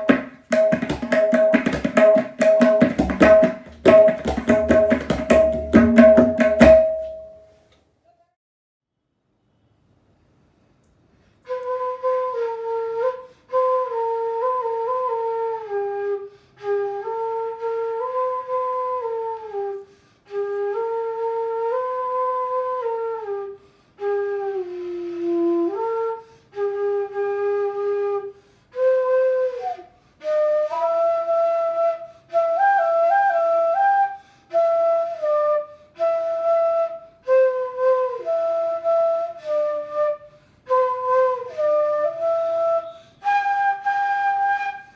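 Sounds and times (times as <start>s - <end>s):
flute melody: 0.0s - 7.6s, 11.5s - 44.9s.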